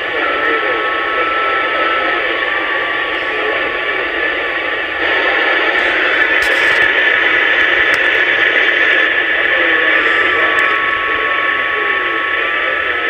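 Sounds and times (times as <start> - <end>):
steady whistle tone: 0.0 - 6.6, 8.9 - 13.0
faint garbled radio signals: 0.0 - 13.0
radio static hiss: 0.0 - 13.0.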